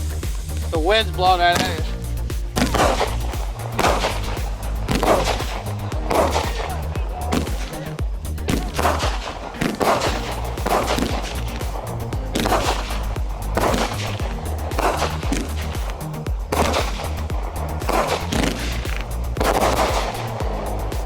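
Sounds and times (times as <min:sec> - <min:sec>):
background music with bass: 0:00.0 - 0:21.0
fireworks bangs with crackling: 0:00.4 - 0:21.0.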